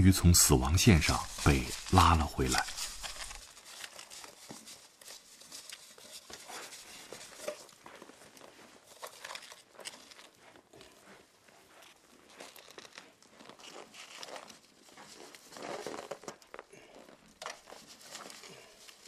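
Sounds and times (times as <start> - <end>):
horse crunching feed: 0.3 - 19.0.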